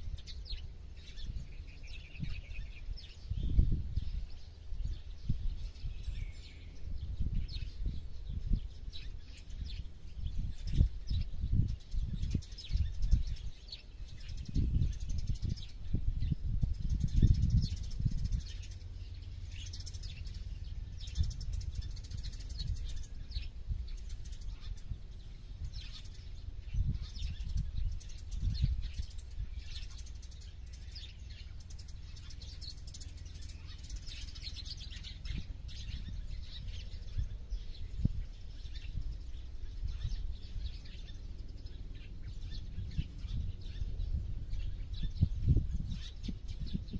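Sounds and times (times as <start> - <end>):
low rumble: 0.0 - 46.9
small birds chirping: 0.0 - 46.9.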